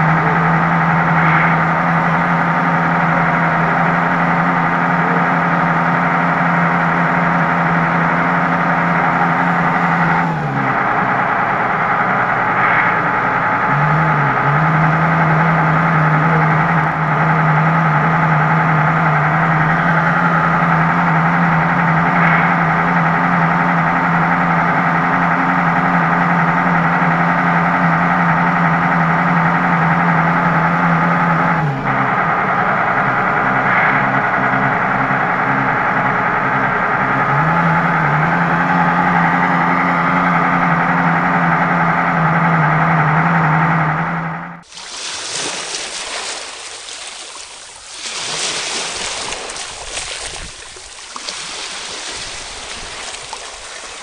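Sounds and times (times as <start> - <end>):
whining cooling fans: 0.0 - 44.7
simulated diesel engine from small speaker: 0.0 - 47.0, 47.6 - 54.0.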